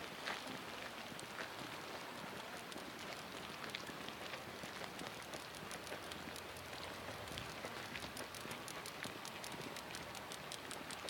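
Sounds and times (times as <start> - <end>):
hot spring fizzing: 0.0 - 11.0.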